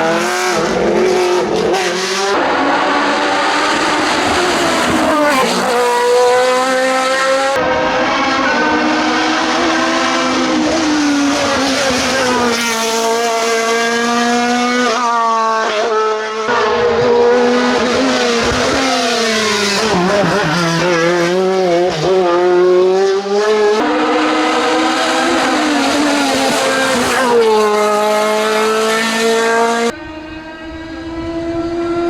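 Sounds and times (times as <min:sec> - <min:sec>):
race car engines at full throttle: 0:00.0 - 0:32.0.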